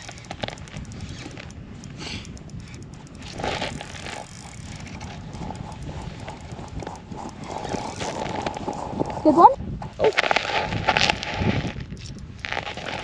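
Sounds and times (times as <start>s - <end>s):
fishing reel clicking: 0.0s - 9.5s, 11.1s - 13.0s
wind rumble on microphone: 0.0s - 13.0s.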